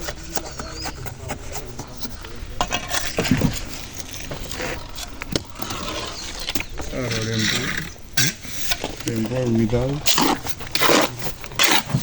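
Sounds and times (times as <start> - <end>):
people talking: 0.0 - 12.0.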